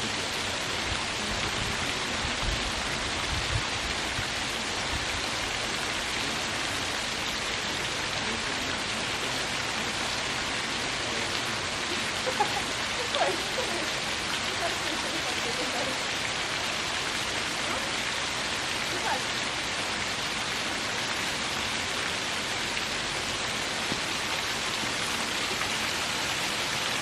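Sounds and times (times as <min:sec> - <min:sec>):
water splashing over rocks: 0:00.0 - 0:27.0.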